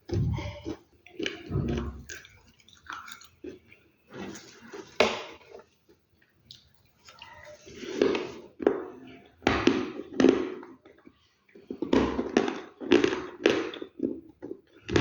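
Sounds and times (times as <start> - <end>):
chewing crunchy food: 0.0 - 15.0.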